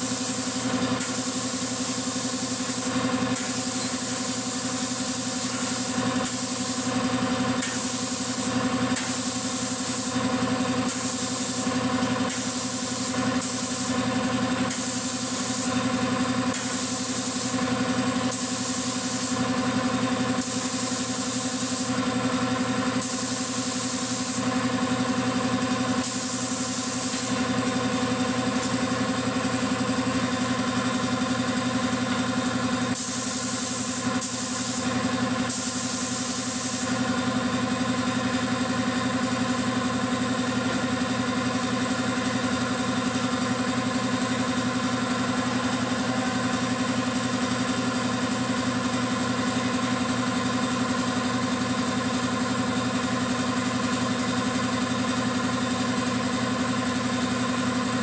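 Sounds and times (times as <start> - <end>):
paint spray gun hissing: 0.0 - 53.0
air compressor humming: 0.0 - 58.0.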